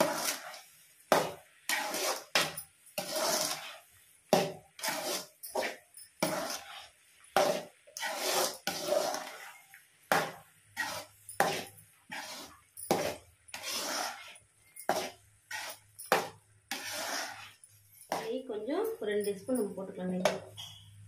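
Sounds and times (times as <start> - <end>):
metal spoon scraping a pot: 0.0 - 0.7, 1.7 - 3.9, 4.8 - 9.8, 10.8 - 19.0, 19.6 - 21.0.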